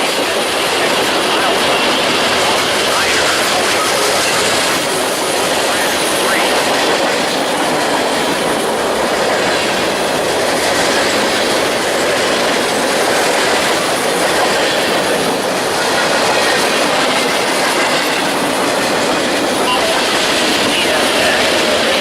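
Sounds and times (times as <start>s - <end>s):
train wheels rushing on rails: 0.0s - 22.0s.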